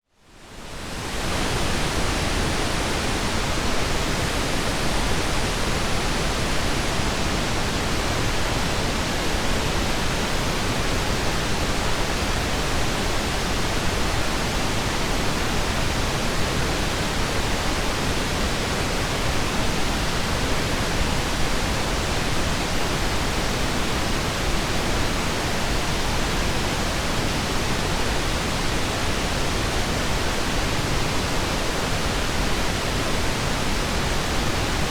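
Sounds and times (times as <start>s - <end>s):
pink noise hiss: 0.2s - 34.9s.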